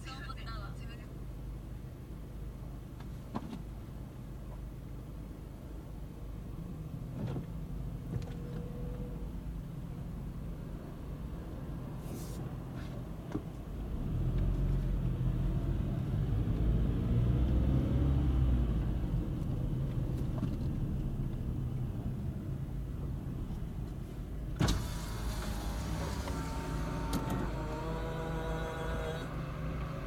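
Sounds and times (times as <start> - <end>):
car engine and tyres hum: 0.0 - 30.0.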